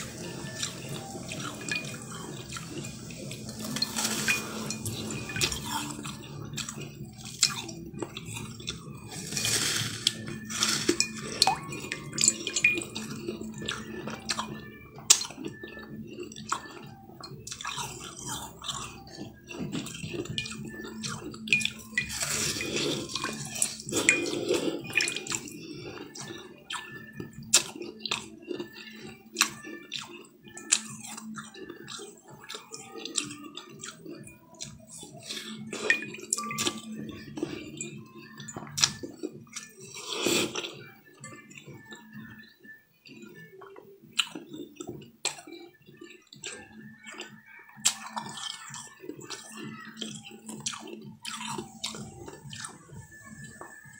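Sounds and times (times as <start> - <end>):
ice crunching between teeth: 0.0 - 40.8, 44.2 - 52.8.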